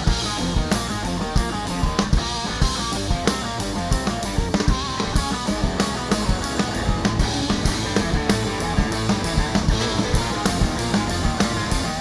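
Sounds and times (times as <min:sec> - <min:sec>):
drum kit beat: 0:00.0 - 0:12.0
rock band playing: 0:00.0 - 0:12.0.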